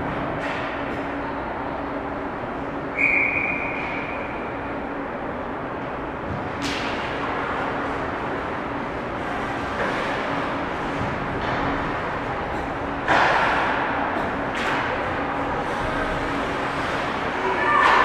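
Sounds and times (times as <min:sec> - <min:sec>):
arena noise with low hum: 0:00.0 - 0:18.0.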